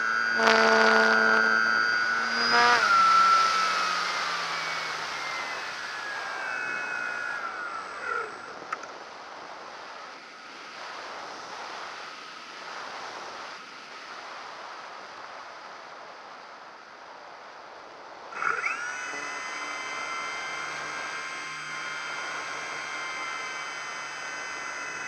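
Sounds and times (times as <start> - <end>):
electric motor whine: 0.0 - 13.5, 18.3 - 25.0.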